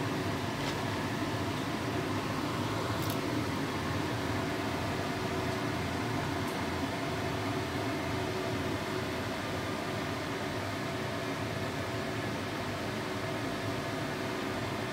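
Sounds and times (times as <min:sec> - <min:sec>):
mechanical hum with hiss: 0:00.0 - 0:14.9.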